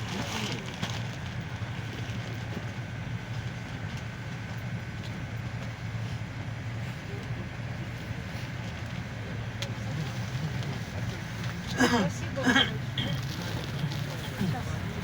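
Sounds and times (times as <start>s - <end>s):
engine and road drone: 0.0s - 15.0s.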